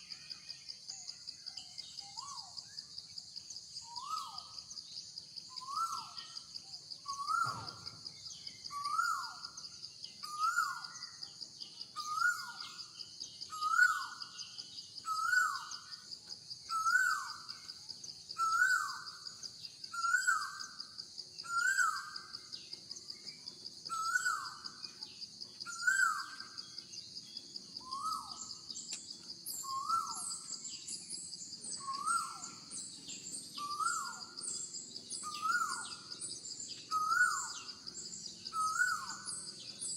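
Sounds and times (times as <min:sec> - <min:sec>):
high-pitched insect drone: 0:00.0 - 0:39.9
small high chirps: 0:00.0 - 0:39.9.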